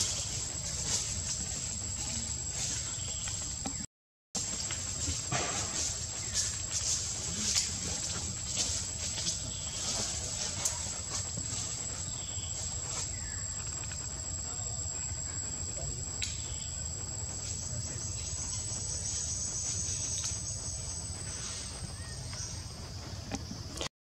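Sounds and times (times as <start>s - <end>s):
insects shrill drone: 0.0s - 3.8s, 4.4s - 23.9s.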